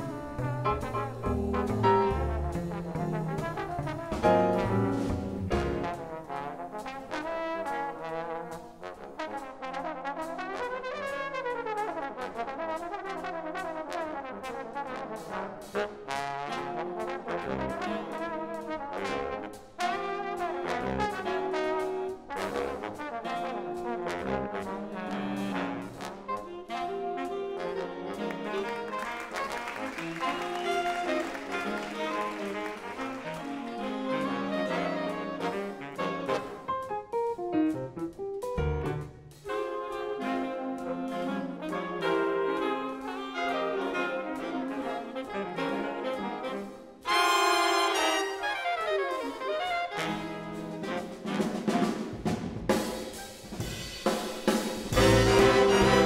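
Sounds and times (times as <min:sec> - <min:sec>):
trombone solo: 0:00.0 - 0:36.9, 0:38.6 - 0:52.1, 0:54.9 - 0:56.0
big band jazz: 0:00.0 - 0:56.0.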